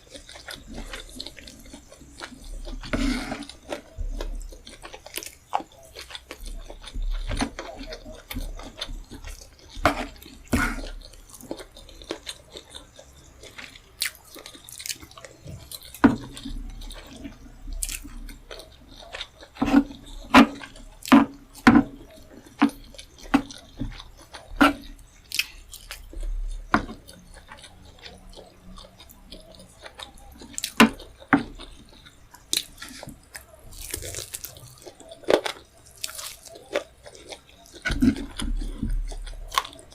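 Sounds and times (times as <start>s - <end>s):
wet chewing and mouth smacks: 0.0s - 39.9s.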